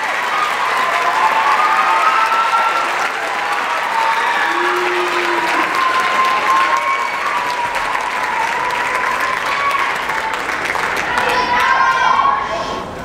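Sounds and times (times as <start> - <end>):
audience clapping: 0.0 - 12.1.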